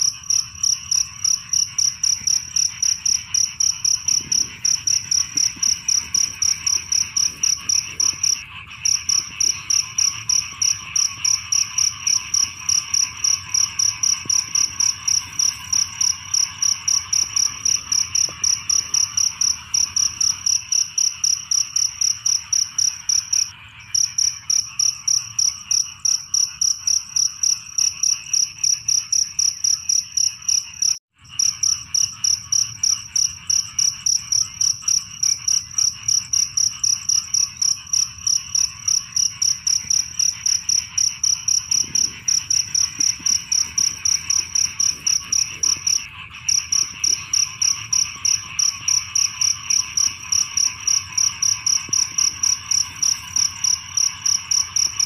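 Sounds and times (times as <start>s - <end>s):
cricket chirping: 0.0s - 55.0s
frogs chorus: 0.0s - 55.0s.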